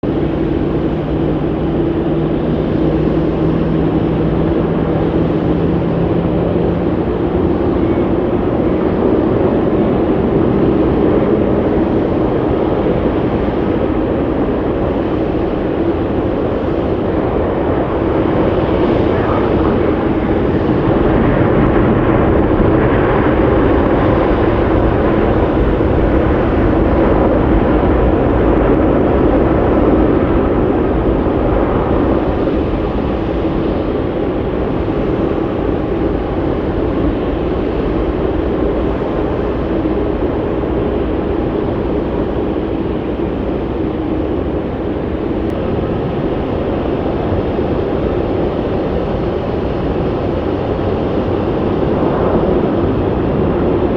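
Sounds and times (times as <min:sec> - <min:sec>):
jet airliner engines: 0:00.0 - 0:53.9.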